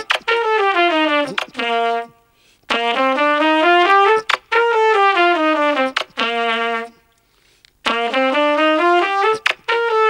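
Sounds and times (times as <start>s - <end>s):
trumpet playing quick runs: 0.0s - 7.0s, 7.8s - 10.0s.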